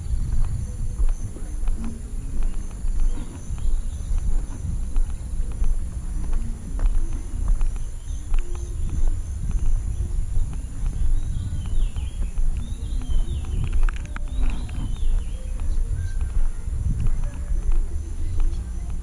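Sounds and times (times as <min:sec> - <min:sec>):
birds calling: 0:00.0 - 0:19.0
footsteps on gravel: 0:00.0 - 0:19.0.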